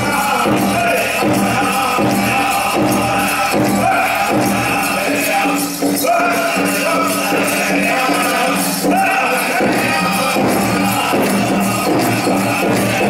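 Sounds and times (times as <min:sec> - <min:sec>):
bells jingling: 0:00.0 - 0:13.0
drum group singing: 0:00.0 - 0:13.0
steady beat on large drum: 0:00.0 - 0:13.0.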